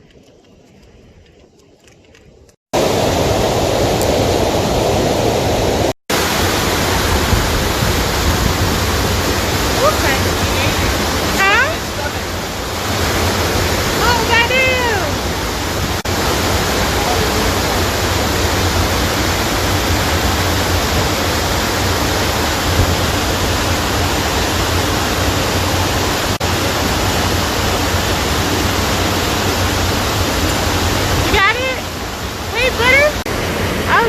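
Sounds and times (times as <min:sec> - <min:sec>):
river water rushing: 0:02.8 - 0:34.0.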